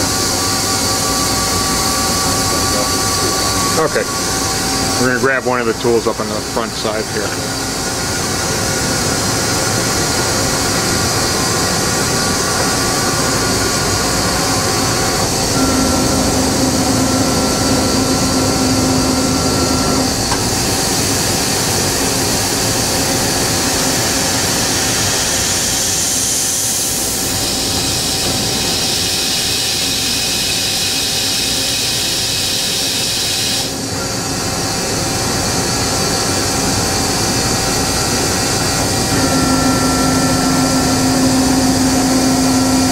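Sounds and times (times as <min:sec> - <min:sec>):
machine hum and hiss: 0:00.0 - 0:42.9
machine whine: 0:00.0 - 0:42.9.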